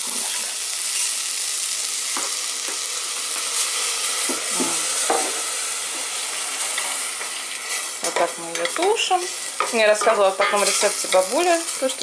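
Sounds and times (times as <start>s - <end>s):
beets sizzling in a pot: 0.0s - 12.0s.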